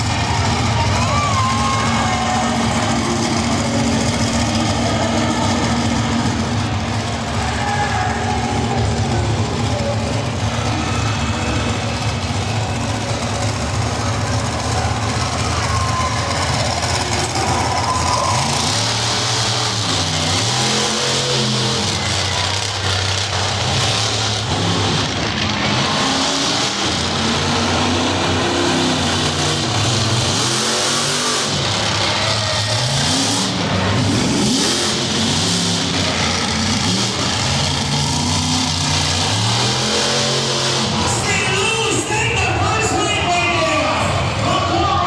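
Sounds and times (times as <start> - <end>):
monster truck engine revving: 0.0 - 45.0.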